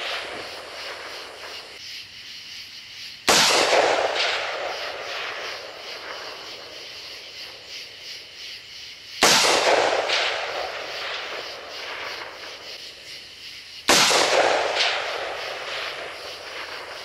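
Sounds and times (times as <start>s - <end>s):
rifle shots with rolling echo: 0.0s - 1.8s, 3.3s - 8.0s, 9.2s - 13.2s, 13.8s - 17.0s.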